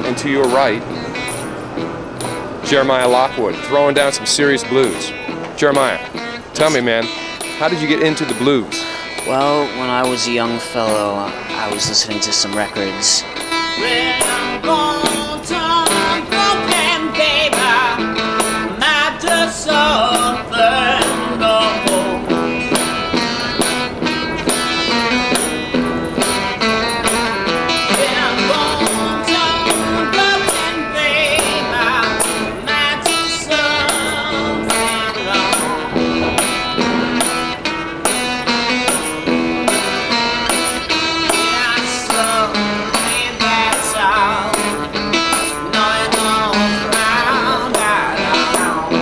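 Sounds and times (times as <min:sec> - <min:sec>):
guitar playing: 0:00.0 - 0:49.0
jingling beat: 0:00.0 - 0:49.0
man singing with vibrato: 0:06.0 - 0:11.9, 0:12.7 - 0:49.0.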